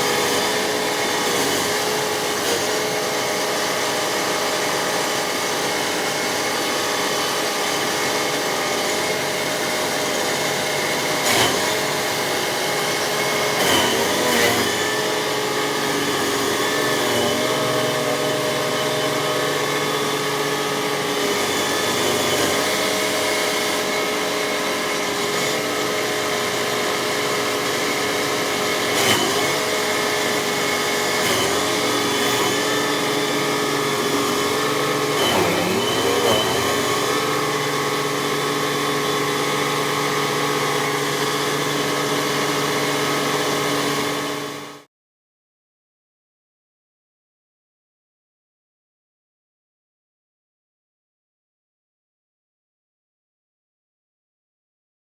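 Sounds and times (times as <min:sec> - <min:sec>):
stump grinder grinding: 0:00.0 - 0:44.8.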